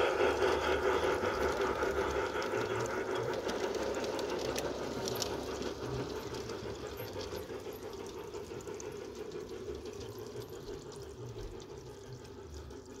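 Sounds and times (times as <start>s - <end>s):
model train motor humming: 0.0s - 13.0s.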